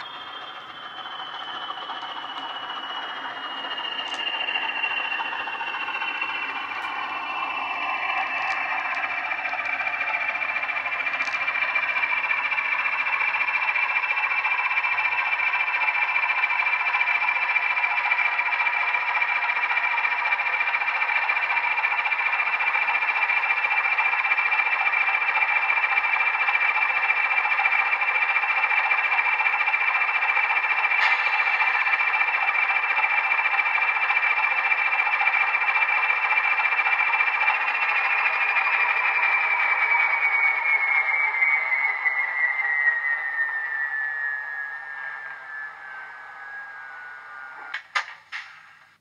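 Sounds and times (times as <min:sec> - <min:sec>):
steady high tone: 0:00.0 - 0:48.0
thin diesel engine sound from speaker: 0:00.0 - 0:49.0.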